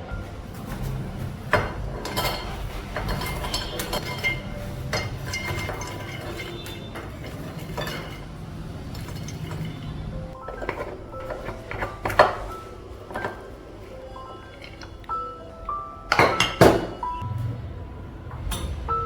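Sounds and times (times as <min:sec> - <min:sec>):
dishes and utensils clinking: 0:00.0 - 0:17.6, 0:18.3 - 0:19.0.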